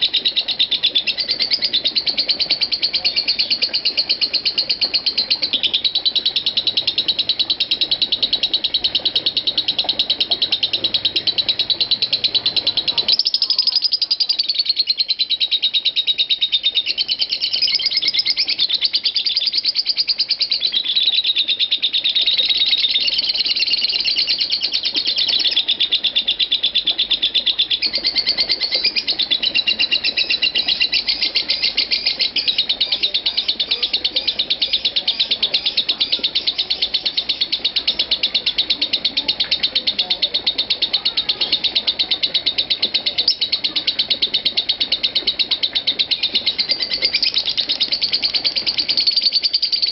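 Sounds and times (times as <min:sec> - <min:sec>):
lovebird rapid chattering: 0:00.0 - 0:49.9.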